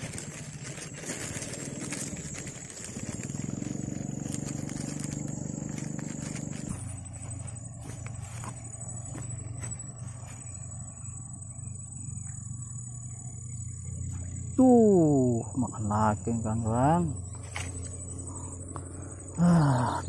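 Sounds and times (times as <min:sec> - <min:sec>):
high insect buzz: 0:00.0 - 0:20.0
small engine running: 0:00.0 - 0:20.0.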